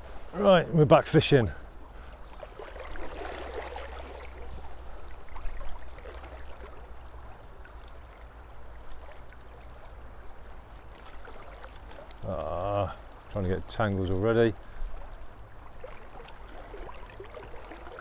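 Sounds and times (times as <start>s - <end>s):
river water rushing: 0.0s - 13.4s, 14.2s - 18.0s.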